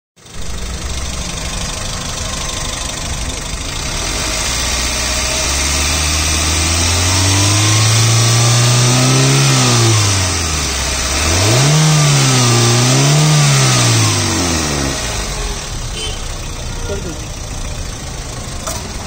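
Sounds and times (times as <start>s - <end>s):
car engine idling and revving: 0.2s - 19.0s.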